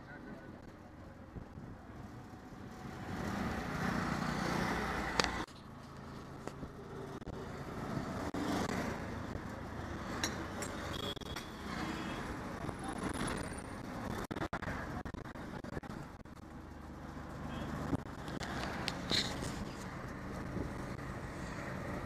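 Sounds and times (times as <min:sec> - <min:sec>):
road and wind noise: 0:00.0 - 0:22.0
traffic going by: 0:00.0 - 0:22.0
auto-rickshaw engine running: 0:00.1 - 0:22.0.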